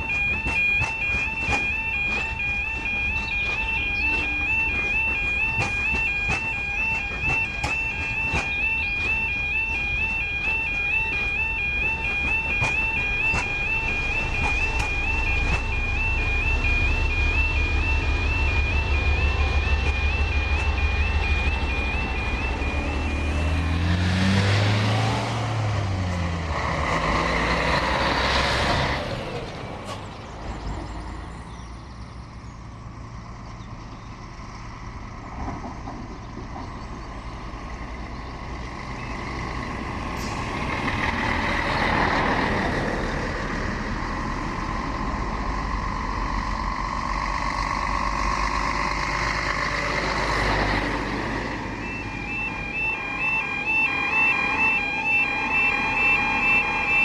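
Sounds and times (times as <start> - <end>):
train passing: 0.0 - 33.4, 34.3 - 57.0
diesel engine running: 0.0 - 57.0.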